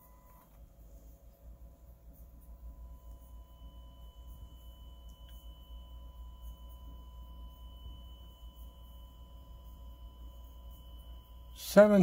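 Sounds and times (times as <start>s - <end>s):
low hum: 0.0s - 12.0s
sine test tone: 0.0s - 12.0s
fainter higher tone: 2.2s - 12.0s.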